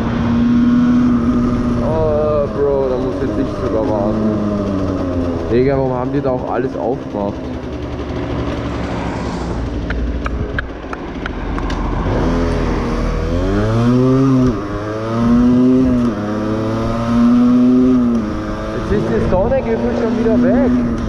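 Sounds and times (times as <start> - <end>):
moped engine revving: 0.0 - 21.0.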